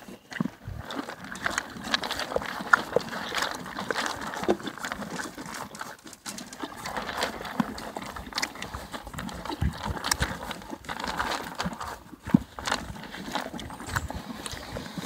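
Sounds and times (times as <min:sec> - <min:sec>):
horse crunching and chewing: 0:00.0 - 0:15.0.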